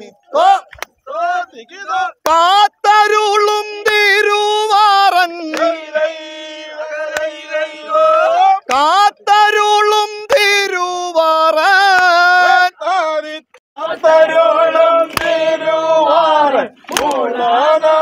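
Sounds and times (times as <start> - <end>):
voices singing in chanting style: 0.0 - 18.0.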